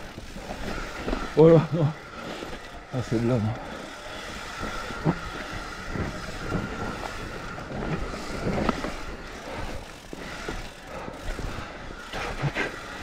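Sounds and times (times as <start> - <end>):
bike knocks and rattles: 0.0 - 13.0
bike tyres rolling over dirt: 0.0 - 13.0.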